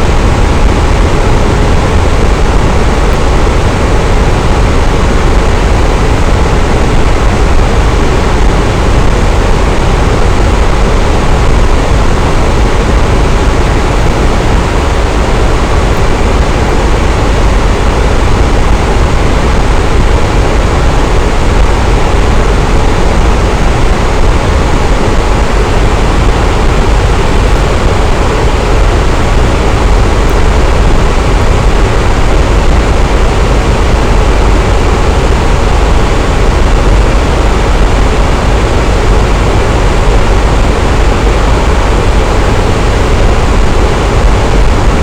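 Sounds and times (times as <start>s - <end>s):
electric fan running: 0.0s - 45.0s.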